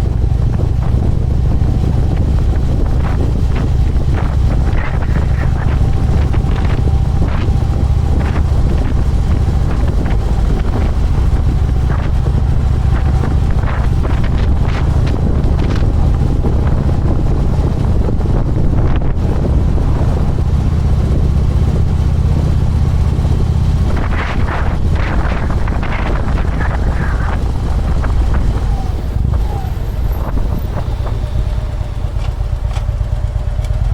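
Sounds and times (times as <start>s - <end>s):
motorcycle engine running: 0.0s - 33.9s
wind buffeting microphone: 0.0s - 33.9s.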